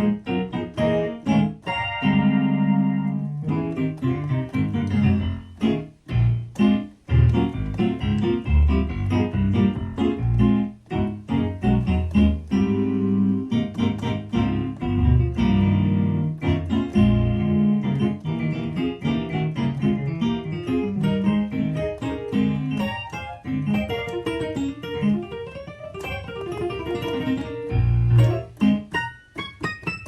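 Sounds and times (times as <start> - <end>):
synthesizer piano chords: 0.0 - 30.0.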